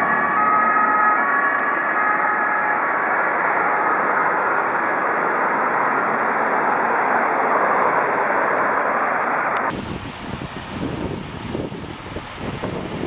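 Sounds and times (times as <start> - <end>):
fire trucks driving past: 0.0 - 13.0
heavy street traffic: 0.0 - 13.0.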